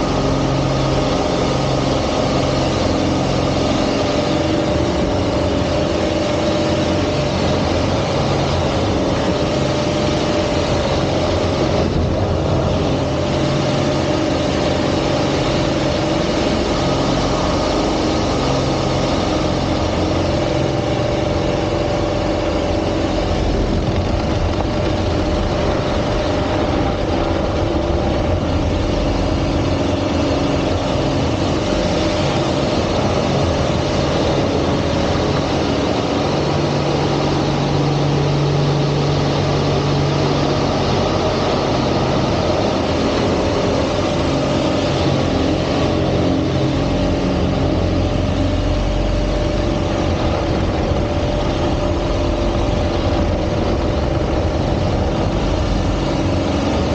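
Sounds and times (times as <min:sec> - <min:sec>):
airplane piston engine and propeller: 0:00.0 - 0:56.9.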